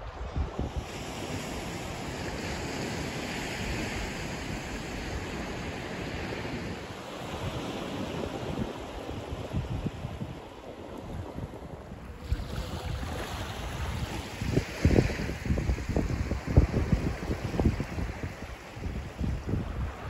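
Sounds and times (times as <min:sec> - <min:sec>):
surf washing on shore: 0:00.0 - 0:20.0
wind buffeting microphone: 0:00.0 - 0:20.0.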